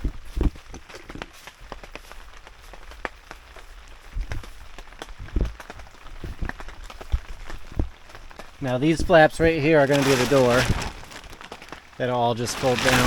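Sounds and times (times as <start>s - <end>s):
raindrops tapping on plastic tarp: 0.0s - 13.0s.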